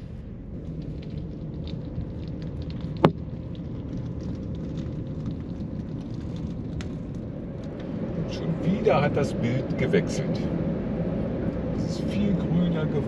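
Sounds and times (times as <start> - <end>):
faint crackles: 0.0 - 10.5
road and engine rumble inside car: 0.0 - 13.0.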